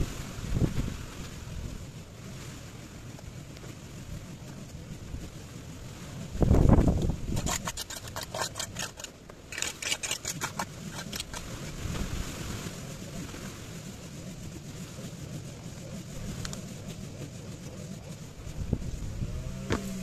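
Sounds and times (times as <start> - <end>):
broom sweeping on tarmac: 0.0 - 20.0.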